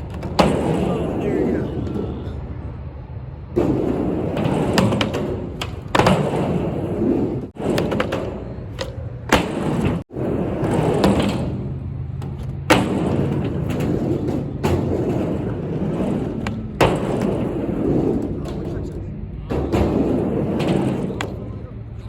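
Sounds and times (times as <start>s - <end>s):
skateboard clacks and impacts: 0.0s - 2.6s, 3.4s - 21.6s
skateboard wheels rolling on ramp: 0.0s - 22.0s.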